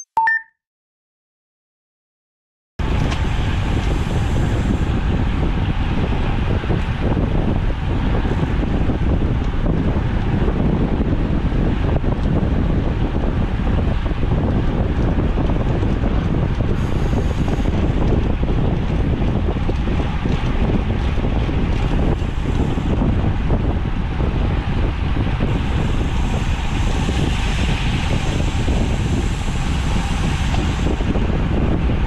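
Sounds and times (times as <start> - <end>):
wind rushing over microphone: 2.8 - 32.0.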